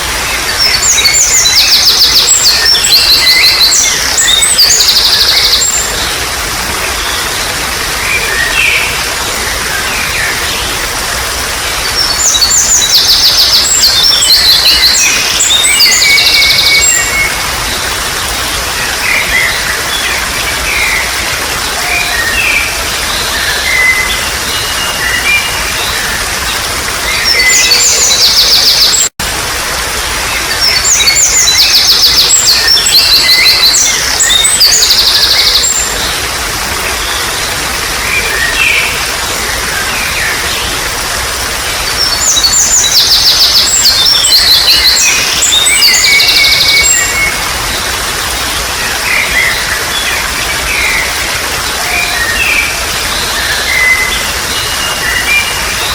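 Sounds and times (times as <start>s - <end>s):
running water trickling: 0.0s - 55.9s
wild birds singing: 0.0s - 55.9s.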